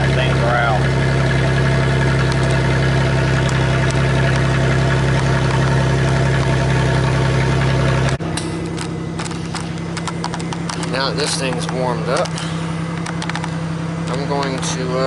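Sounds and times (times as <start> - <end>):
minivan engine idling: 0.0 - 15.0.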